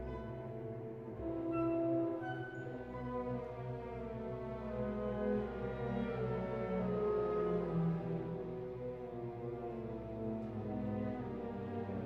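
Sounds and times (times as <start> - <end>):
slow orchestral music: 0.0 - 12.0.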